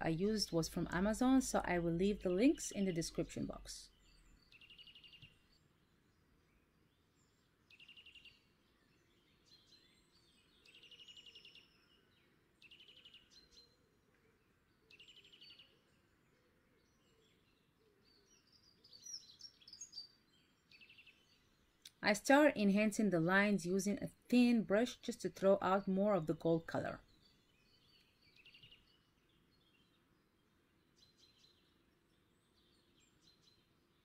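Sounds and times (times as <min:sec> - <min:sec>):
bird chirps: 0:02.1 - 0:21.9, 0:25.8 - 0:34.0.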